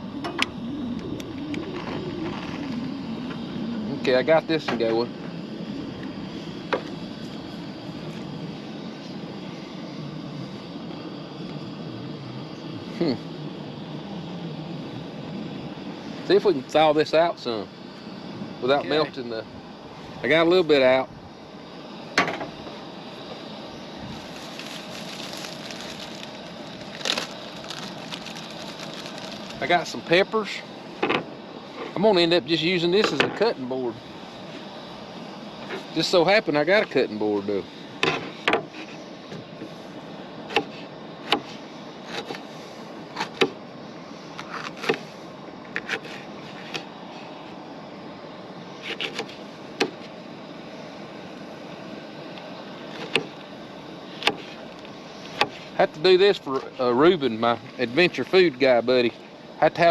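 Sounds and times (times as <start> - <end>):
background hiss: 0.0 - 59.9
campfire crackling: 0.0 - 59.9.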